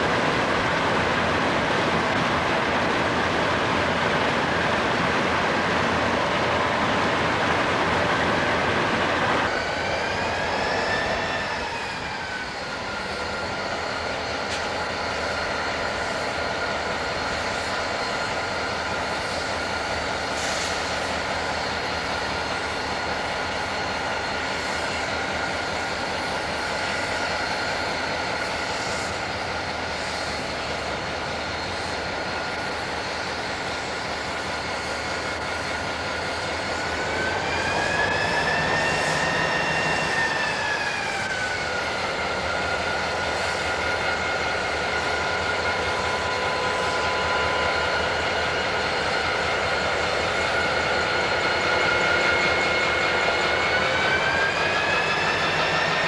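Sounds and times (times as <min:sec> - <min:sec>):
high-pitched whine: 0:00.0 - 0:56.0
locomotive diesel engine running: 0:00.0 - 0:56.0.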